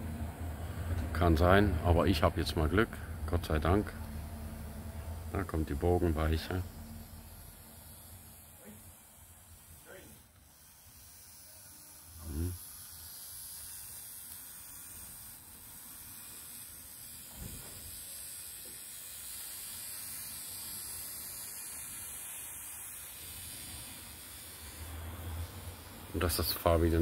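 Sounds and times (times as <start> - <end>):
model train motor whirring: 3.6 - 27.0.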